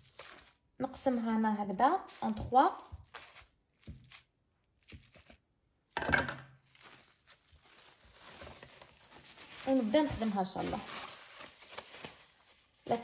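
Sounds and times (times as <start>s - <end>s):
plastic cling wrap crinkling: 0.0s - 13.0s.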